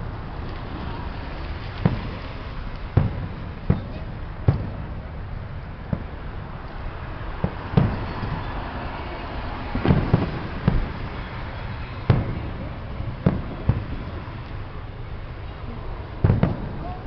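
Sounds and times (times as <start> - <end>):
fireworks bangs: 0.5 - 8.7, 9.5 - 17.0.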